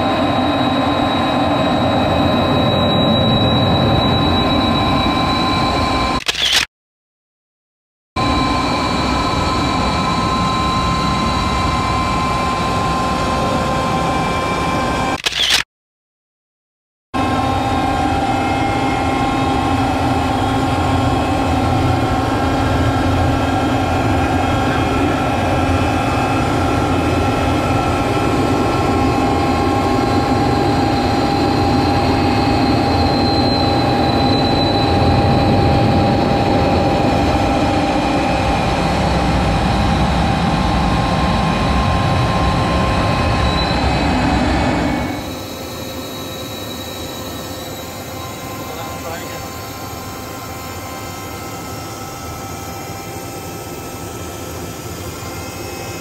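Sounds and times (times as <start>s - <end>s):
jet engine rumble and rushing air: 0.0s - 6.7s, 8.2s - 15.6s, 17.2s - 56.0s.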